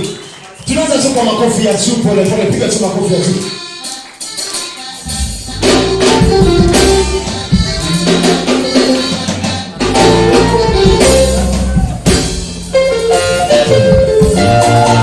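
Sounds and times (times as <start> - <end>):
worship band playing: 0.0 - 15.0.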